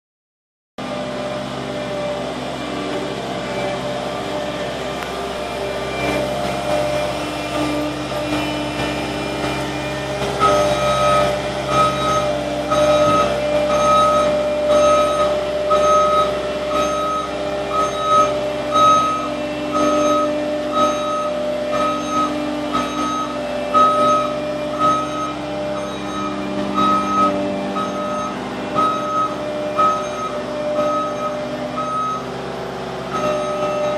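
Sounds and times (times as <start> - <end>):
loader engine running: 0.8 - 33.9
backup alarm beeping: 5.8 - 32.4, 33.0 - 33.9.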